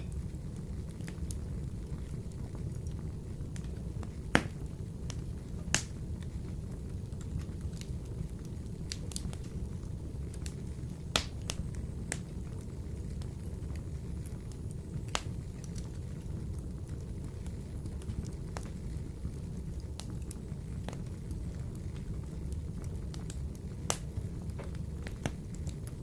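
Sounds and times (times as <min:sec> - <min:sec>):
fire crackling: 0:00.0 - 0:26.0
fire rumbling in stove: 0:00.0 - 0:26.0
wood fire sharp pops: 0:00.0 - 0:26.0.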